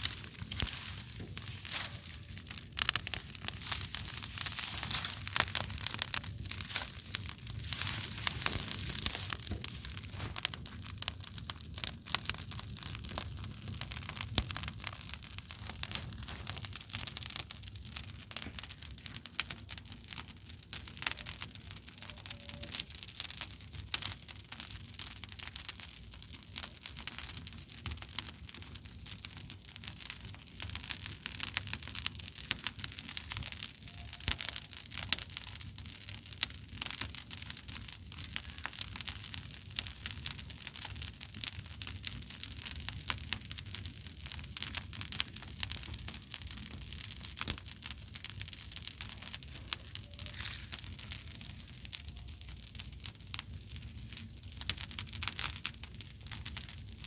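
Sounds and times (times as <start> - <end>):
bonfire crackling: 0.0 - 57.0.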